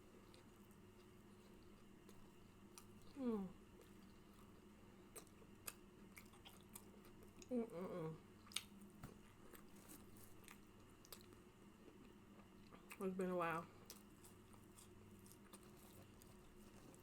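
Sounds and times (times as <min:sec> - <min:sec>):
person chewing food: 0:00.1 - 0:07.5, 0:08.4 - 0:13.0, 0:13.8 - 0:17.0.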